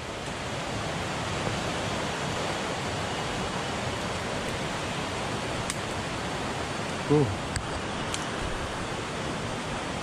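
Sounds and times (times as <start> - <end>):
river water rushing through rapids: 0.0 - 10.0.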